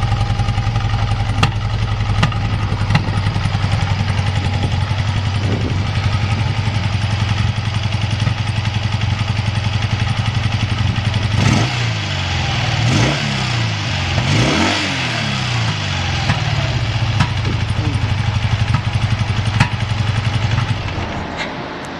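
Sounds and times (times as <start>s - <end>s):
motorcycle engine idling and revving: 0.0s - 21.9s.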